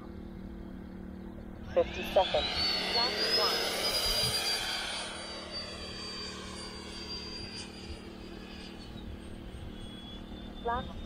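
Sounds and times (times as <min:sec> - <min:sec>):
electric ducted fan whining: 0:00.0 - 0:11.0.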